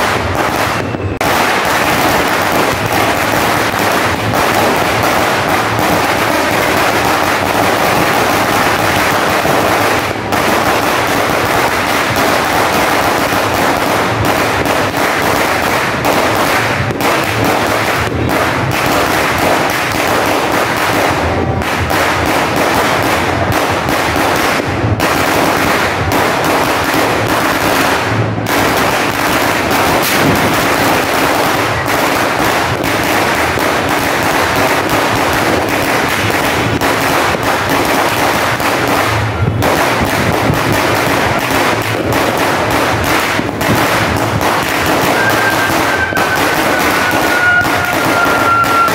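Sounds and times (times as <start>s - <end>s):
firecrackers crackling: 0.0s - 48.9s.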